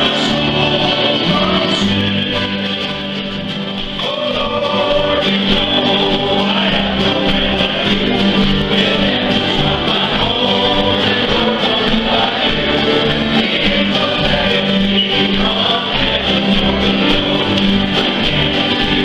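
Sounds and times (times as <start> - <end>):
accordion: 0.0 - 19.0
acoustic guitars: 0.0 - 19.0
mandolin: 0.0 - 19.0
men singing together: 0.0 - 19.0.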